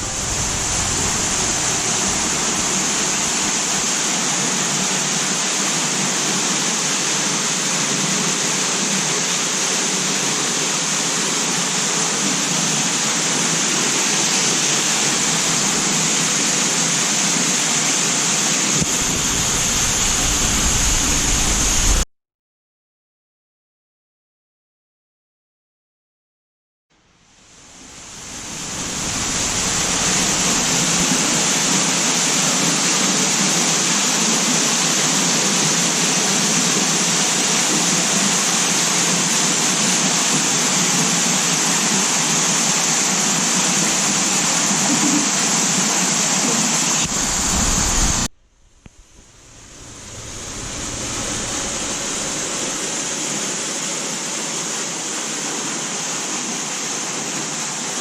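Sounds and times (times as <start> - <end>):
waterfall rushing: 0.0 - 22.0, 27.5 - 48.3, 49.0 - 58.0.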